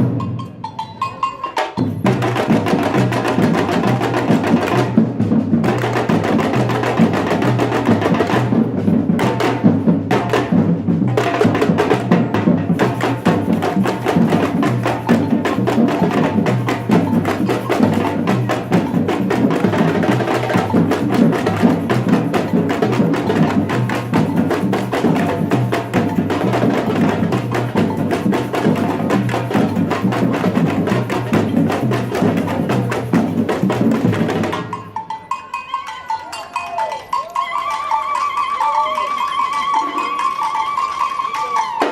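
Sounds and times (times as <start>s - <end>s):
samba percussion group drumming: 0.0s - 41.9s.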